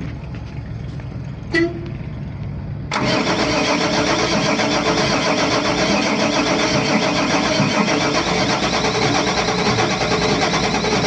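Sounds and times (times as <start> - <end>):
diesel engine starting and running: 0.0 - 11.0.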